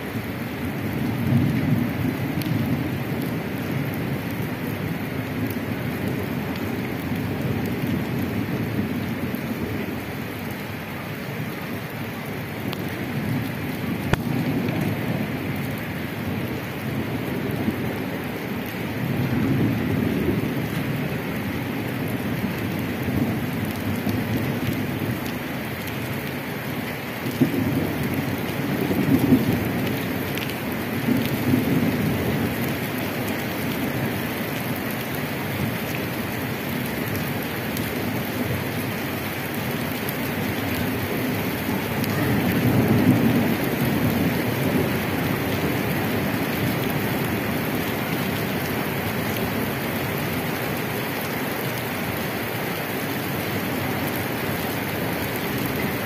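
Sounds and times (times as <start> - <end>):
rain on a wet paved street: 0.0 - 56.0.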